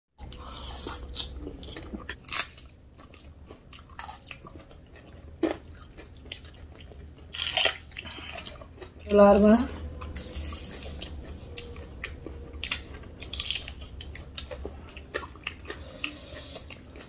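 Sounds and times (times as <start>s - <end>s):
person chewing crunchy snack: 0.2s - 17.0s.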